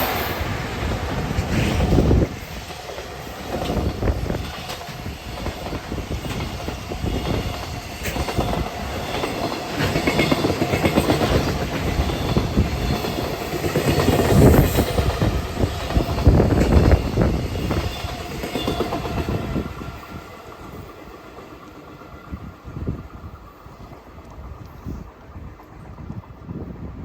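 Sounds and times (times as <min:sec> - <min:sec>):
train wheels clacking over rails: 0:00.0 - 0:26.9.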